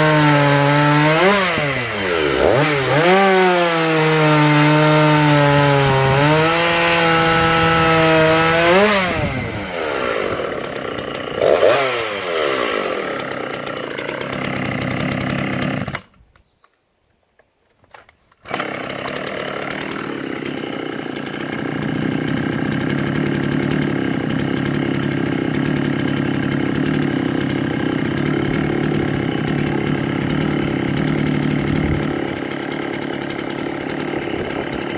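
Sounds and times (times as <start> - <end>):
chainsaw running: 0.0 - 16.2, 18.4 - 34.9.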